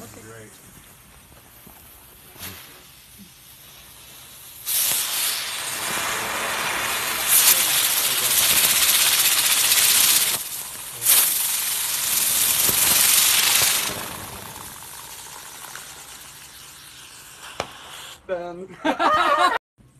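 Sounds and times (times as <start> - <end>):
ground firework hissing: 0.0 - 18.6.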